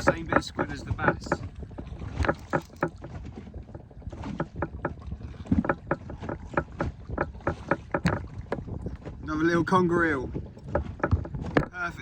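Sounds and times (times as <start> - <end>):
knocks on inflatable boat: 0.0 - 12.0
wind rumble on microphone: 0.0 - 12.0.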